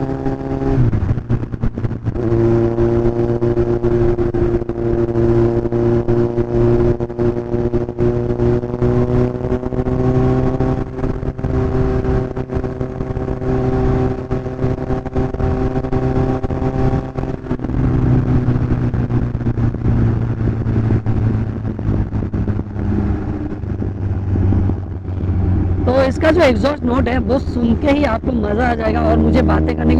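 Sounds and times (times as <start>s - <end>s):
motorcycle engine and exhaust: 0.0s - 29.9s.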